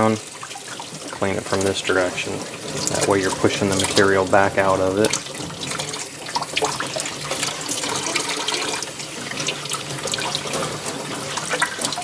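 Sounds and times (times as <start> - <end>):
water spraying through mesh filter: 0.0 - 12.0.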